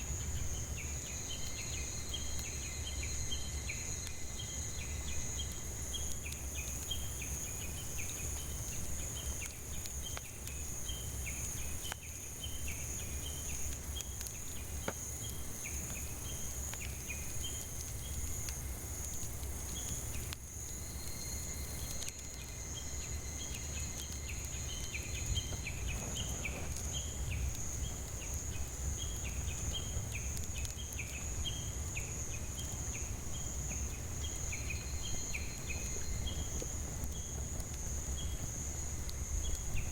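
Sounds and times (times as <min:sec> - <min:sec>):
campfire crackles: 0:00.0 - 0:39.9.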